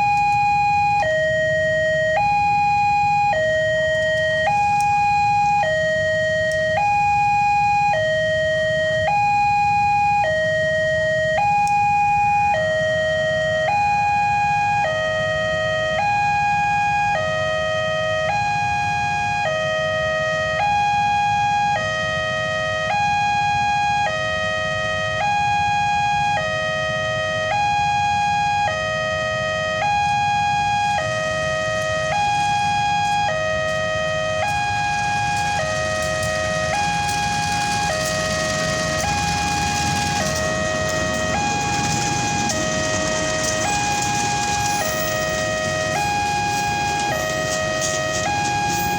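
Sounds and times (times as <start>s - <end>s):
two-tone level crossing siren: 0.0s - 48.9s.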